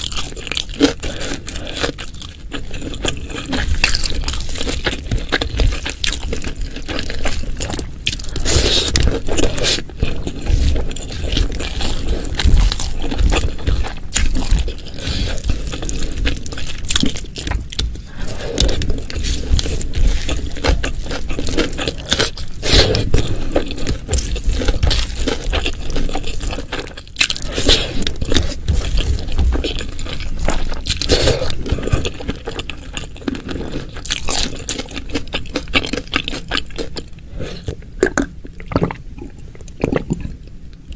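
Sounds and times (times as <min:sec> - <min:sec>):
wet chewing and crunching: 0:00.0 - 0:40.9.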